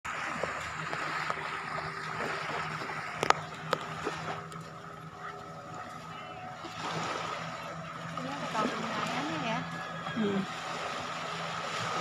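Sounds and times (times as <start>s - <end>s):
small waves washing on shore: 0.1s - 12.0s
steady hum: 0.1s - 12.0s.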